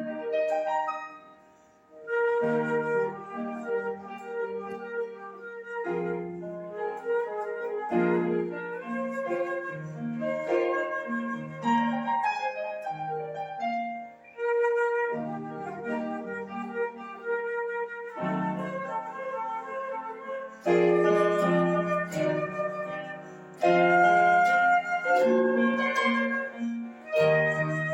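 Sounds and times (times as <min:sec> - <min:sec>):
flute melody: 0:00.0 - 0:27.9.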